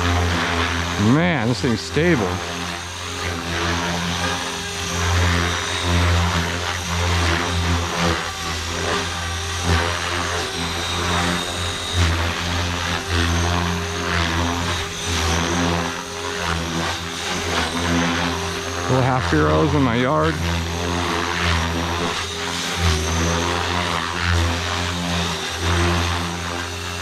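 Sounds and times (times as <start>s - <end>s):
rc helicopter rotors whirring: 0.0s - 27.0s.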